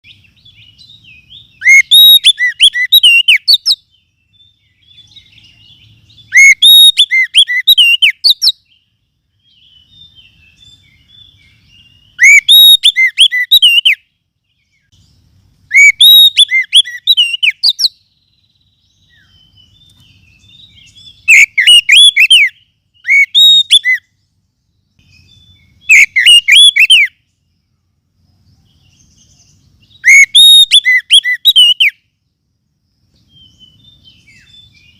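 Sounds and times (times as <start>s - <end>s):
bird song of quick whistled notes: 0.0s - 34.9s.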